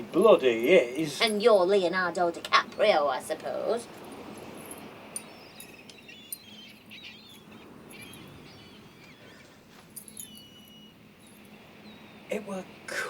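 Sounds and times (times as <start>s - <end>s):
faint seagulls calling: 0.0s - 13.0s
low steady background noise: 0.0s - 13.0s.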